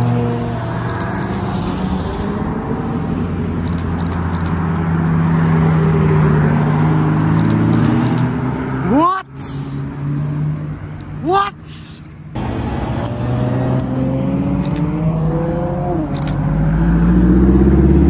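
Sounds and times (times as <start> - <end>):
engine rev: 0.0 - 2.6, 3.6 - 10.8, 12.3 - 18.0
car engines passing slowly: 0.0 - 18.0.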